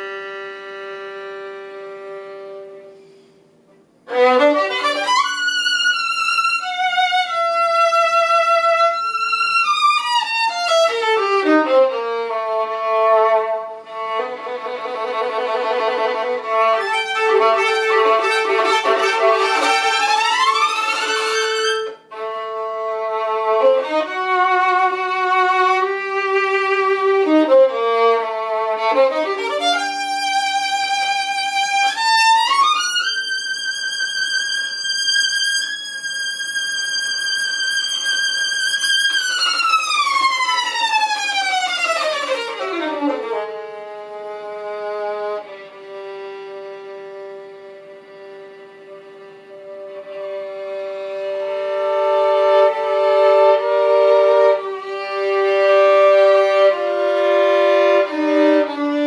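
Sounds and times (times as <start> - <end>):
solo violin sliding notes: 0.0 - 59.0.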